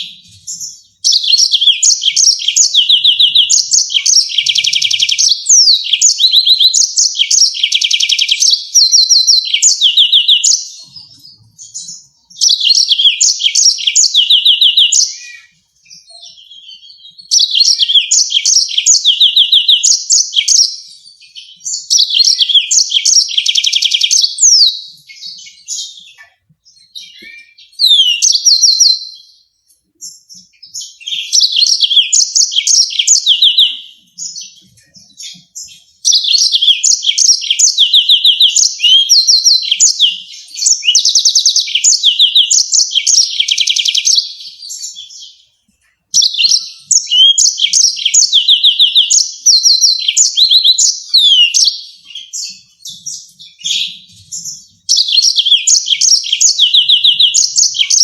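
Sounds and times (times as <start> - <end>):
canary singing high trills: 0.0 - 58.0.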